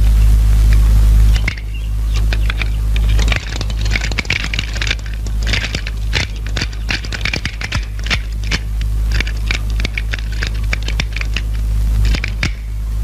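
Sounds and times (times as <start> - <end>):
steady low hum: 0.0 - 13.0
metallic clicks and rattles: 1.4 - 12.7.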